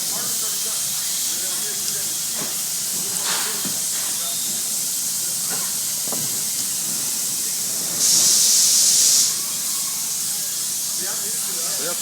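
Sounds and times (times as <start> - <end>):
loud burst of high hissing: 0.0 - 12.0
steady hissing factory noise: 0.0 - 12.0.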